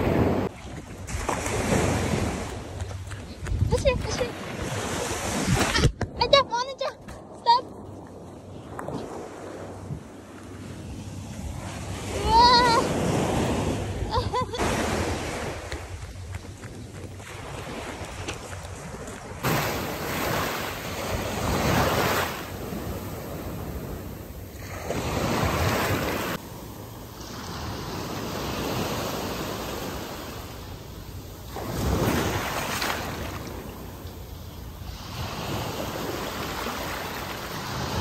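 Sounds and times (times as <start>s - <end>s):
small waves washing on sand: 0.0s - 5.9s, 6.7s - 38.0s.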